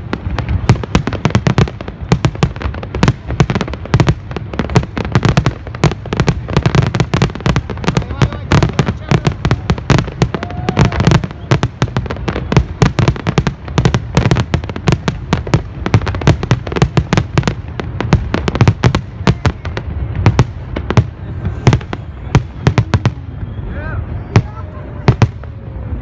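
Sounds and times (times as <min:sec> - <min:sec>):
fireworks sharp bangs: 0:00.0 - 0:26.0.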